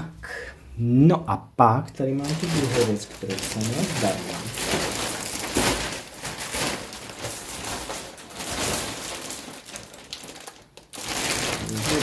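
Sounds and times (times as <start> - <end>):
packaging rustling and crinkling: 2.2 - 12.0.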